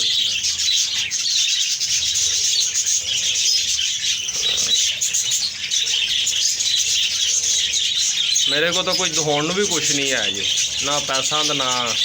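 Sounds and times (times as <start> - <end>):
flock of parrots chattering: 0.0 - 12.0.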